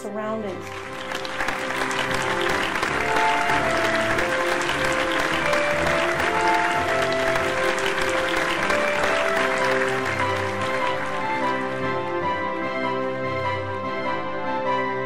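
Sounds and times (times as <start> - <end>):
instrumental music of held notes: 0.0 - 15.0
audience applauding: 0.5 - 12.9.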